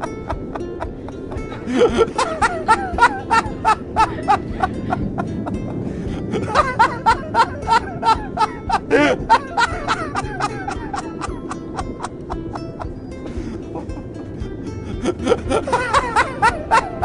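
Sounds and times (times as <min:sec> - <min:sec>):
background music: 0:00.0 - 0:17.0
hearty human laughter: 0:00.0 - 0:17.0.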